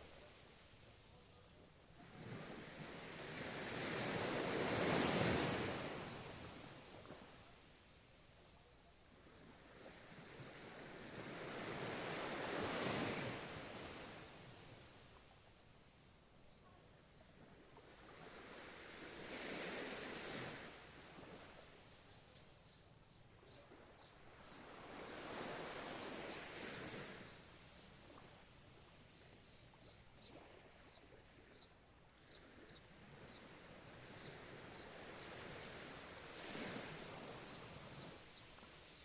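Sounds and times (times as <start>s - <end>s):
faint ocean waves: 0.0s - 39.0s.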